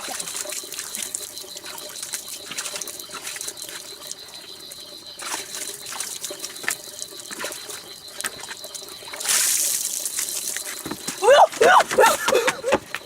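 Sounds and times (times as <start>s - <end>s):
small clicks and splashes: 0.0s - 11.2s
water trickling: 0.0s - 13.0s.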